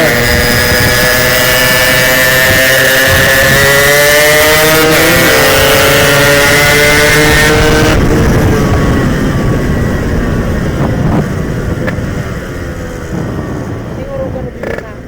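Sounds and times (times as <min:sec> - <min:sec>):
road rumble: 0:00.0 - 0:15.0
two-stroke motorcycle engine revving: 0:00.0 - 0:15.0.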